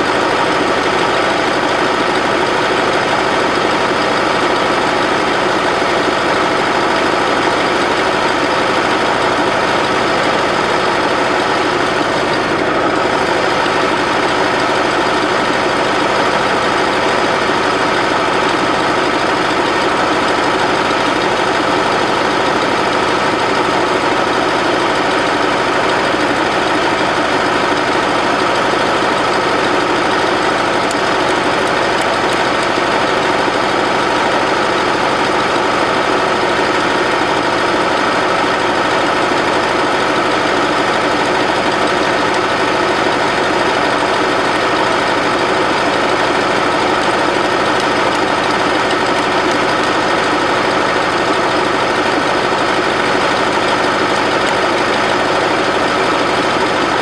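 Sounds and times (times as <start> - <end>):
gasoline engine running steadily: 0.0 - 57.0.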